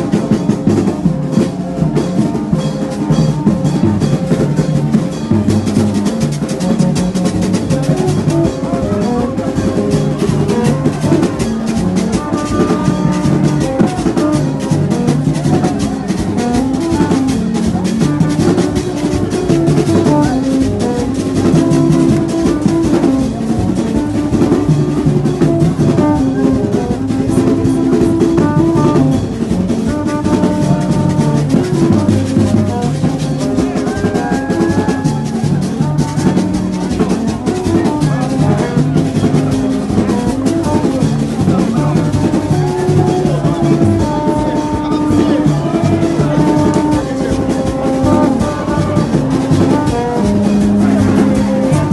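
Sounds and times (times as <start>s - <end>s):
music with drumming and percussion: 0.0s - 51.9s.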